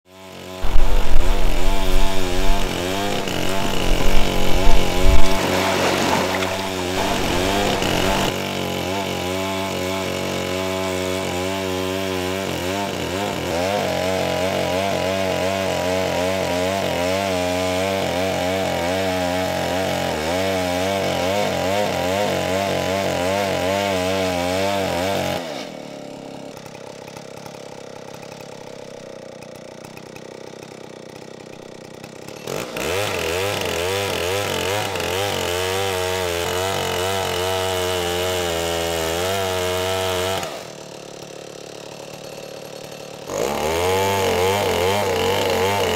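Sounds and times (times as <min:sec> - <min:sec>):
chainsaw cutting through log: 0:00.0 - 0:45.9.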